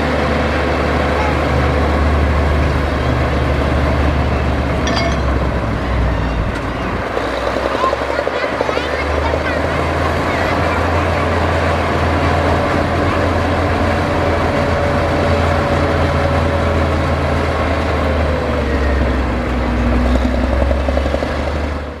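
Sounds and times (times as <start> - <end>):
engine whine: 0.0 - 22.0
heavy diesel engine humming: 0.0 - 22.0.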